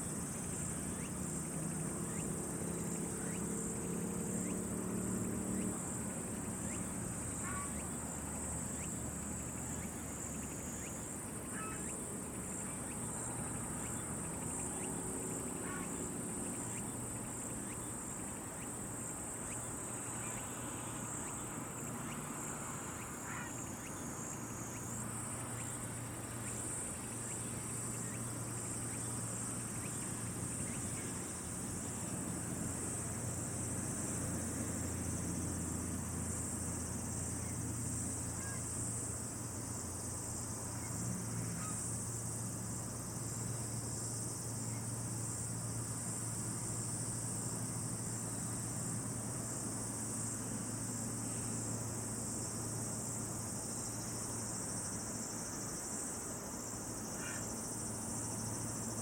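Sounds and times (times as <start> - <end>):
high-pitched insect chorus: 5.6 - 59.0.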